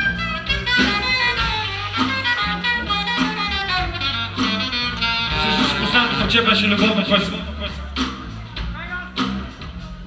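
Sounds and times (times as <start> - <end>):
steady bass notes: 0.0 - 10.0
drum strokes: 0.5 - 9.8.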